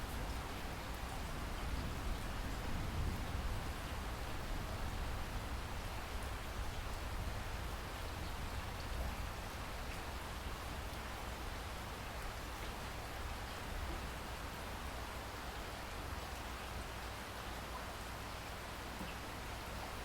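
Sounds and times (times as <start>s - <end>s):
steady rainfall: 0.0s - 20.0s.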